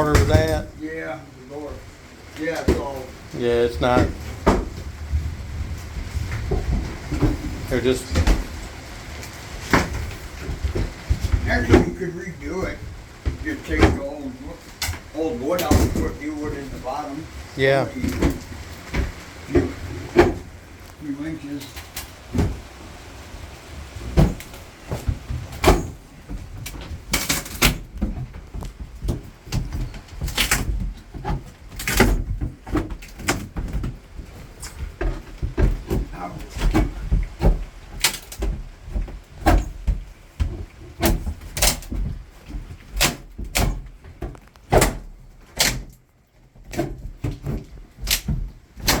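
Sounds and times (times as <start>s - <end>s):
demolition knocks and bangs: 0.0s - 0.9s, 2.4s - 17.1s, 17.9s - 23.1s, 23.8s - 45.9s.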